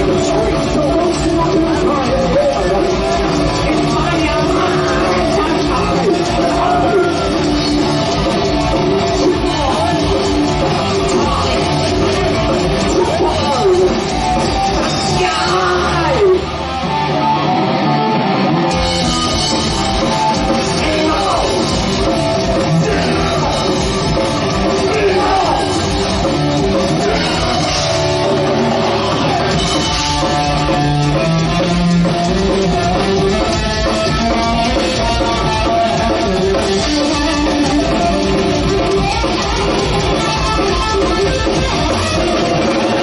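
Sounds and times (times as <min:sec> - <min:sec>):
distorted electric guitars: 0:00.0 - 0:43.0
drums: 0:00.0 - 0:43.0.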